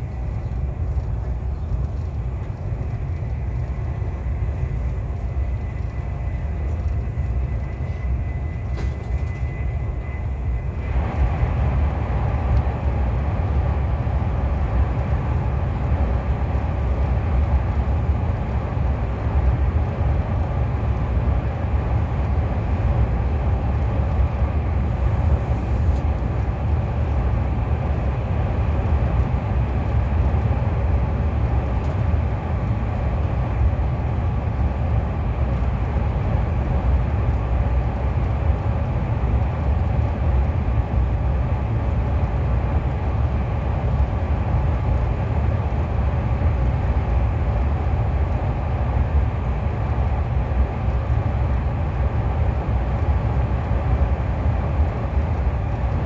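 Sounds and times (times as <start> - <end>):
train cabin rumble and rushing: 0.0 - 56.0.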